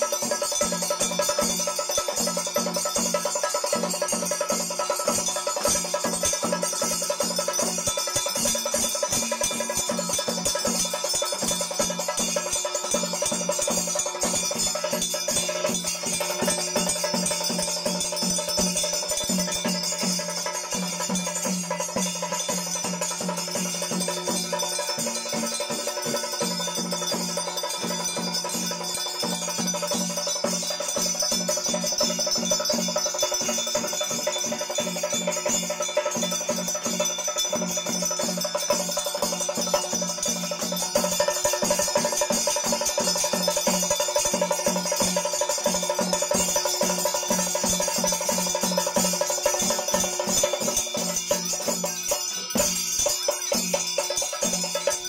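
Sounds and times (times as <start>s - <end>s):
temple bells ringing: 0.0s - 55.0s.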